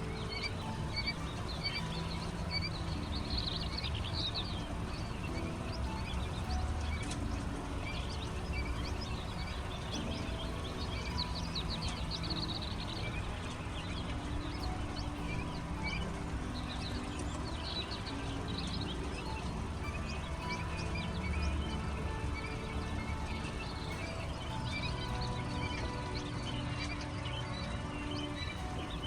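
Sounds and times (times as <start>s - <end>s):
chicks peeping: 0.0s - 27.3s.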